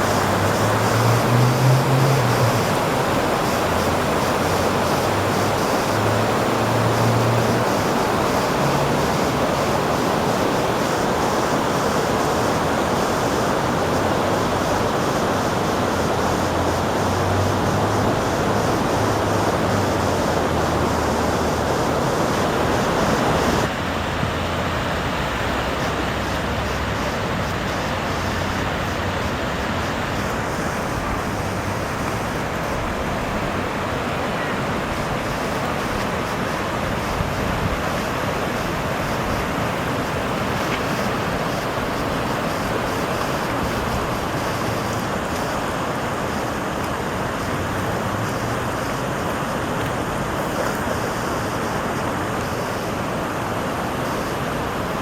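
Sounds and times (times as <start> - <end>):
rushing floodwater: 0.0 - 55.0.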